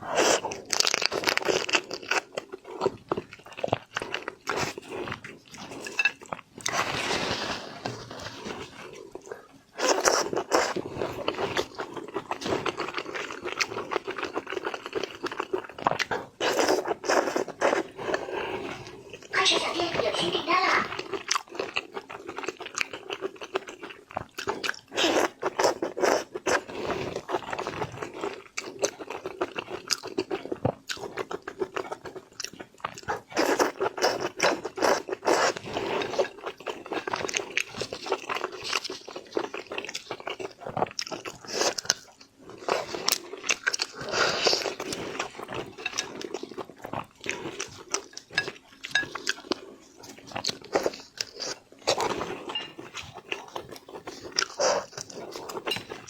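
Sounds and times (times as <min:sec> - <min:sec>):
chewing and crunching food: 0:00.0 - 0:56.0.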